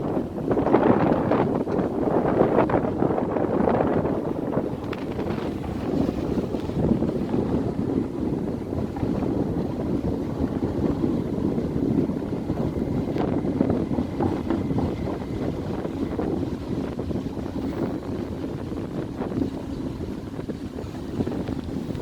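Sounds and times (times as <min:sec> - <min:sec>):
train rumbling across bridge: 0:00.0 - 0:22.0
wind buffeting microphone: 0:00.0 - 0:22.0.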